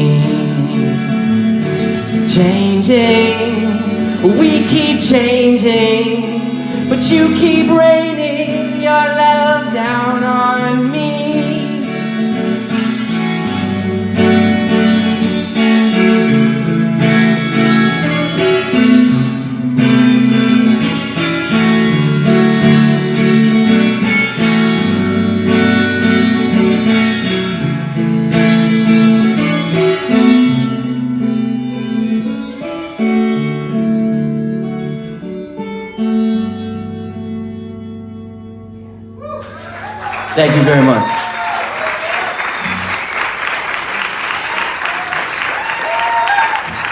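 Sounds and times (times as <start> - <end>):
guitar strumming chords: 0.0 - 41.1.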